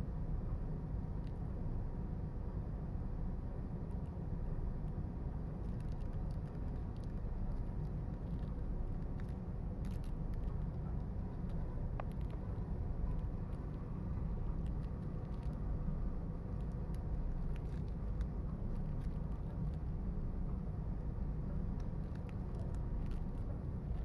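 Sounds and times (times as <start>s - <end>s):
faint steady hum: 0.0s - 24.0s
low background rumble: 0.0s - 24.0s.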